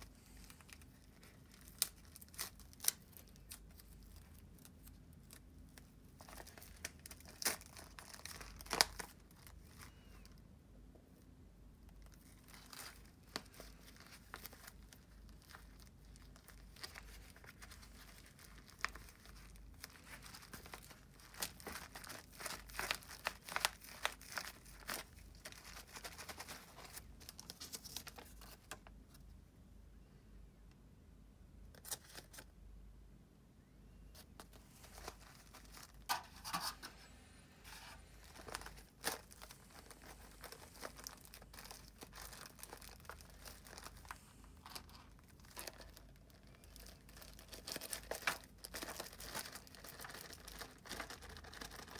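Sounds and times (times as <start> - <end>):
paper wrapping crinkling and tearing: 0.0 - 10.4, 12.0 - 29.2, 34.2 - 51.9.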